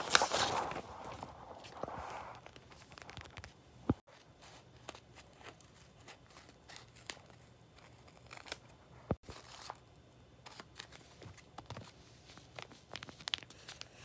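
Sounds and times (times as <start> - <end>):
paper crinkling and rustling: 0.0 - 9.8, 10.4 - 14.0.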